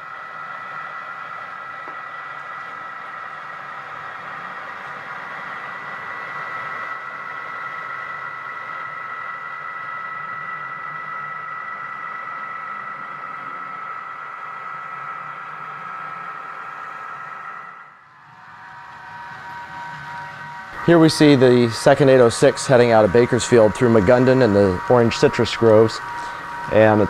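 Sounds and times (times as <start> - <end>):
model train humming: 0.0 - 27.0.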